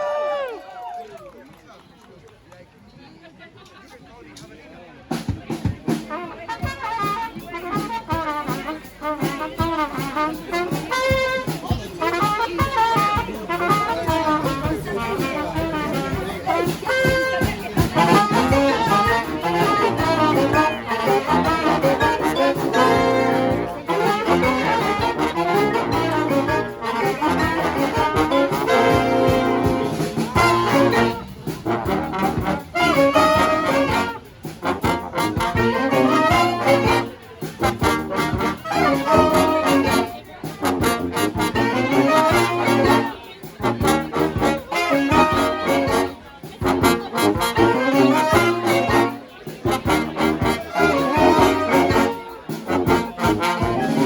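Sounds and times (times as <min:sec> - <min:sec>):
brass band playing: 0:05.1 - 0:54.0.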